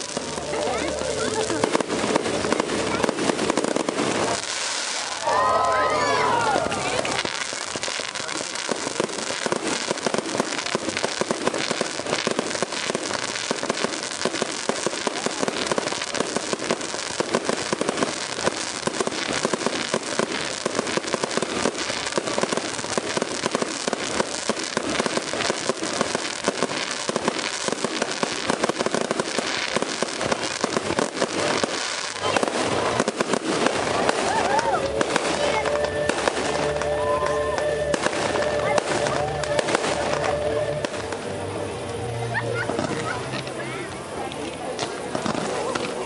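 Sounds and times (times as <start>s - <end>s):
fireworks crackling and popping: 0.0s - 46.0s.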